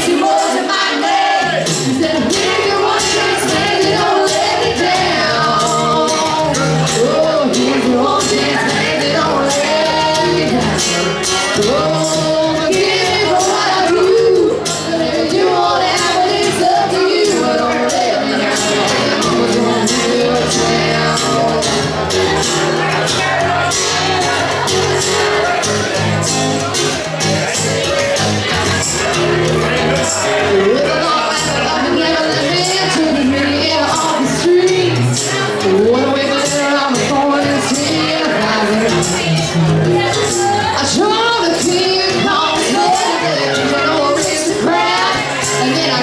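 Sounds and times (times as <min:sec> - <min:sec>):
women singing: 0:00.0 - 0:22.7, 0:30.4 - 0:46.0
acoustic guitar strumming: 0:00.0 - 0:46.0
hand percussion beat: 0:00.0 - 0:46.0.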